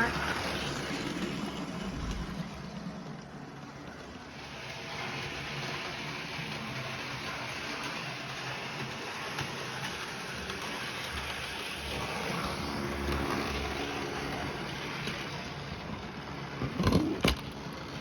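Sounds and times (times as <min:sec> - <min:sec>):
model train whirring rumble: 0:00.0 - 0:18.0.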